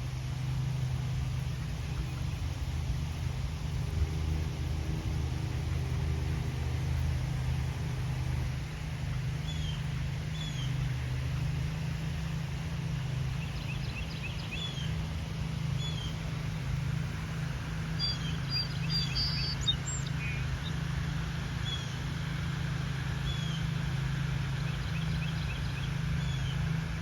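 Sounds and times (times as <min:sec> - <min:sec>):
low rumble of distant traffic: 0:00.0 - 0:27.0
small birds chirping: 0:00.4 - 0:27.0.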